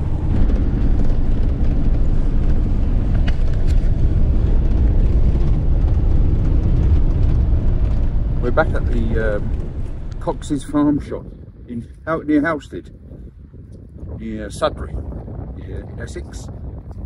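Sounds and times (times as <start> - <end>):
road and engine rumble in cab: 0.0 - 17.0.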